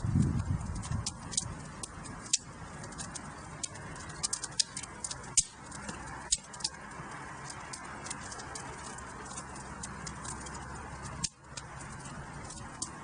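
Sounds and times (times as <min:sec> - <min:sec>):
fire crackling and popping: 0:00.0 - 0:13.0
flames hissing: 0:00.0 - 0:13.0.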